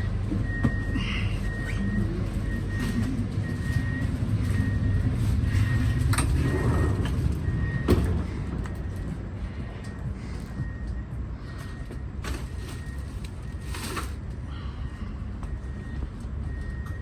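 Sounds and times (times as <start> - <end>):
low rumble of trains: 0.0 - 17.0
train door warning beeps: 0.0 - 17.0.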